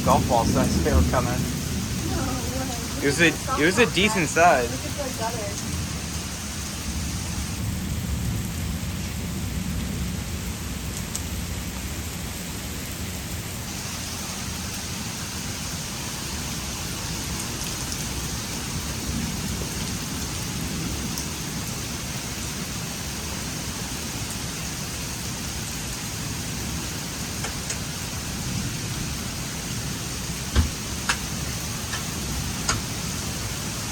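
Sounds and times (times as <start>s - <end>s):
heavy rain hissing: 0.0s - 33.9s.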